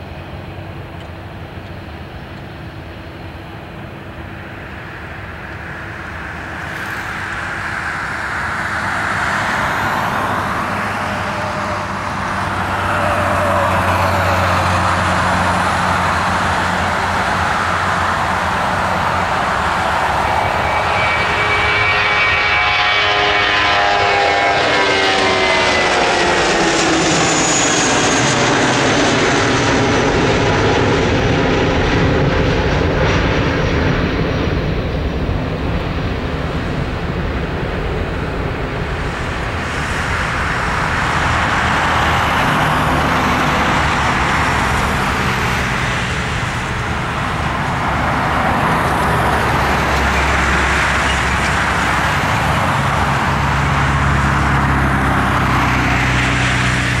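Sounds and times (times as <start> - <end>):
jet engines roaring at takeoff: 0.0 - 57.0.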